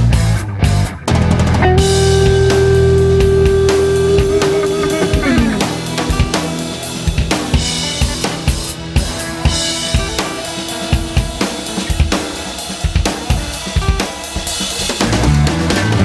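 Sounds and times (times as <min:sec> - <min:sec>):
rock music with drum kit: 0:00.0 - 0:16.0.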